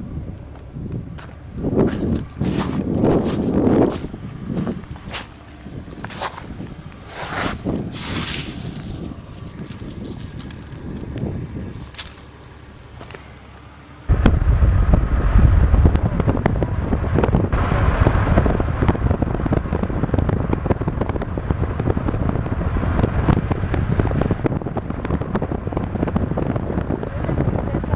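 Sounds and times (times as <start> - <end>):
wind buffeting microphone: 0.0 - 13.2, 14.1 - 27.9.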